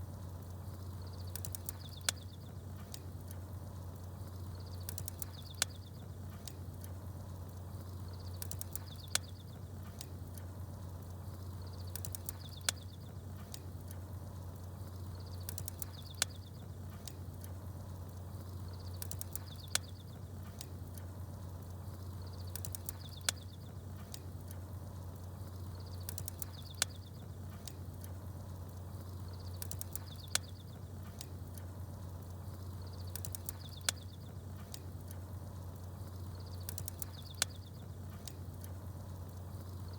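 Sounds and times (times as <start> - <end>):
campfire popping: 0.0 - 39.9
small birds chirping: 0.3 - 39.9.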